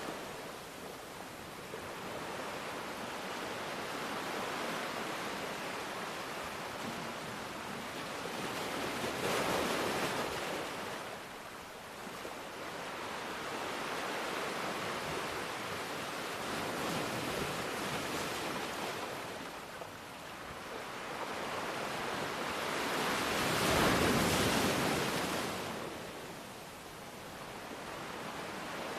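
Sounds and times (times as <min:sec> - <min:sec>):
ocean waves washing on shore: 0:00.0 - 0:28.9.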